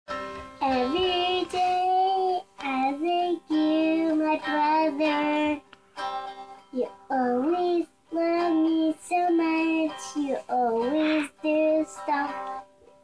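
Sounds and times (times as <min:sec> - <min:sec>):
strummed electric guitar: 0:00.1 - 0:13.0
girl singing: 0:00.3 - 0:05.7, 0:06.6 - 0:13.0.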